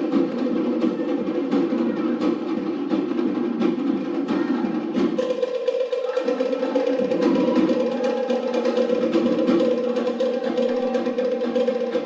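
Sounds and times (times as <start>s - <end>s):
log drums beating a rhythm: 0.0s - 12.0s.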